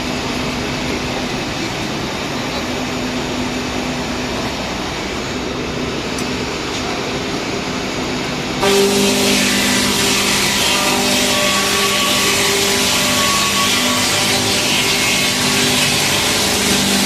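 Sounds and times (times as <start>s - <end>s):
sawing machine running: 0.0s - 17.0s.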